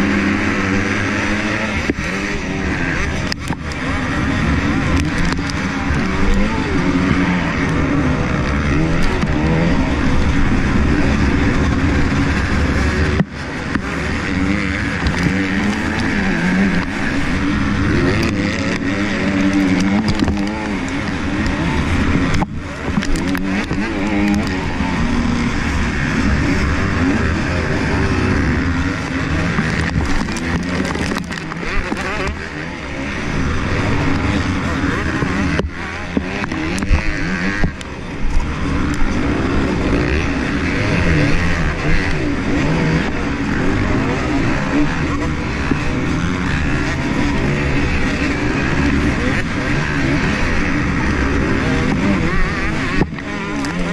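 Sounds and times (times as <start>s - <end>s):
motocross bike engine revving: 0.0s - 53.9s
other race bikes: 0.0s - 53.9s.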